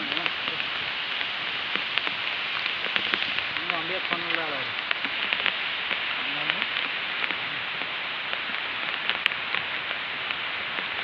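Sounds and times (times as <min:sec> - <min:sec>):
small ticks and patters: 0:00.0 - 0:11.0
water hissing: 0:00.0 - 0:11.0.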